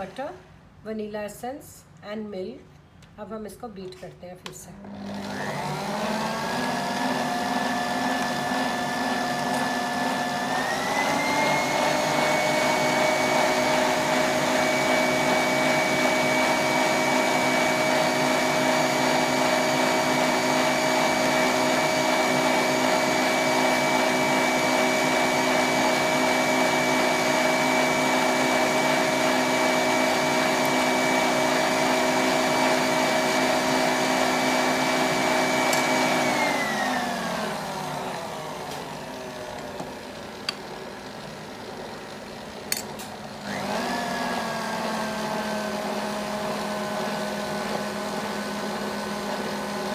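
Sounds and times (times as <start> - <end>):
stand mixer motor whine: 4.8 - 49.9.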